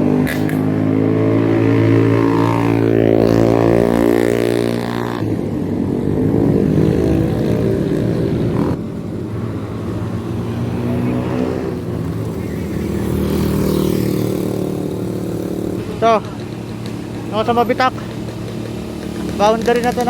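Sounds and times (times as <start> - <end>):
motorcycle engine passing: 0.0 - 20.0
rough engine rumble: 0.0 - 20.0.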